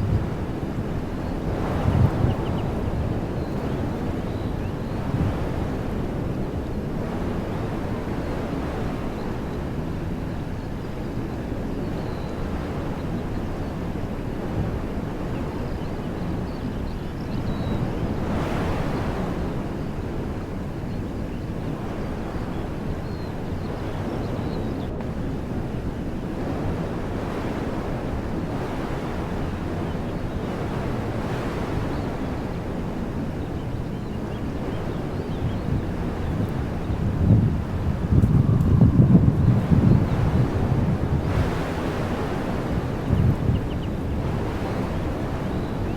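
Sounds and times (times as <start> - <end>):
wind blowing through trees: 0.0 - 45.9.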